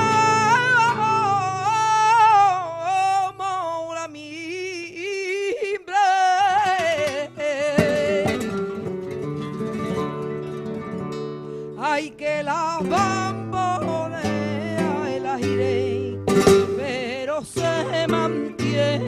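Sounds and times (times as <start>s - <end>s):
person singing melismatic lines: 0.0s - 8.8s, 11.7s - 19.0s
acoustic guitar: 0.0s - 19.0s.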